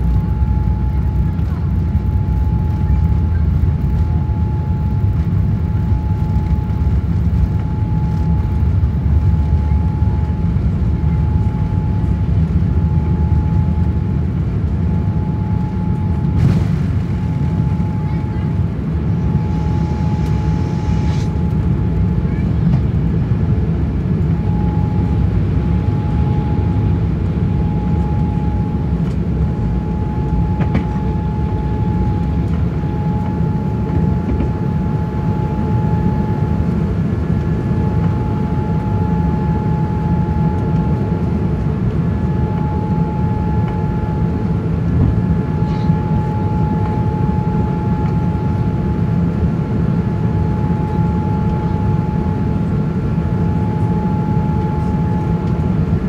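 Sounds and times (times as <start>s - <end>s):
constant high whine: 0.0s - 56.0s
engine and airflow rumble: 0.0s - 56.0s.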